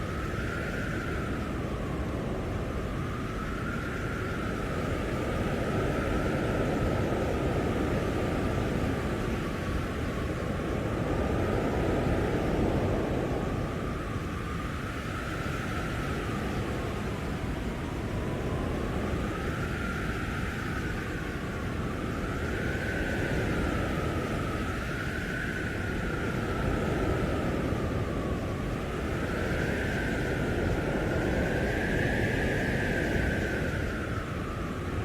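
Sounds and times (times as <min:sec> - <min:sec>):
howling blizzard wind: 0:00.0 - 0:35.0.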